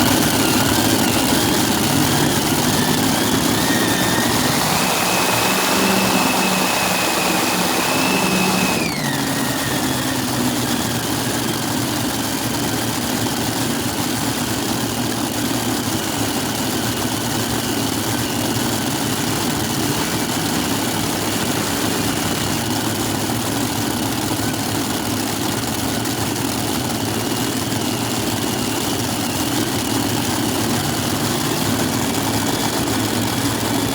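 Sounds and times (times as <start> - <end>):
pulling tractor engines revving: 0.0 - 33.9.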